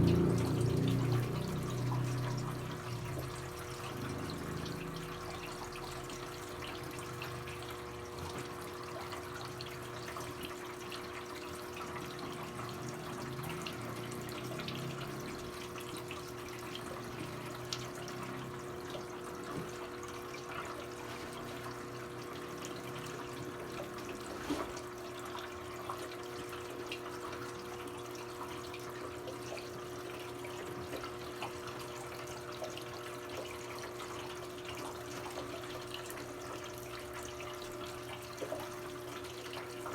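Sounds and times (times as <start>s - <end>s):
washing machine hum: 0.0s - 39.9s
water filling washing machine: 0.0s - 39.9s.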